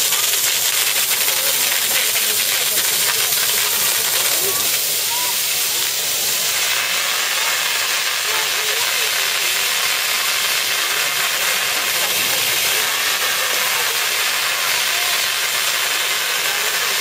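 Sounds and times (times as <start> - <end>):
hose water spraying: 0.0 - 17.0.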